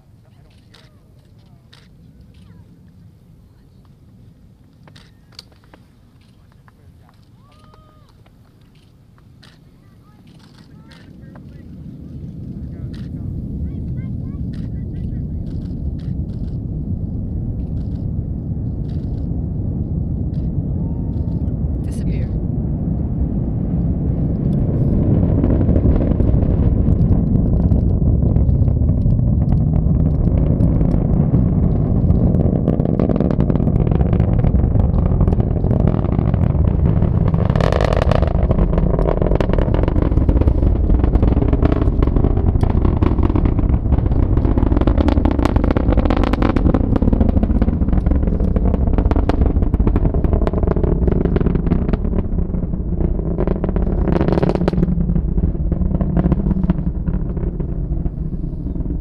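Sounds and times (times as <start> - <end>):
rocket engines rumbling: 0.0 - 59.0.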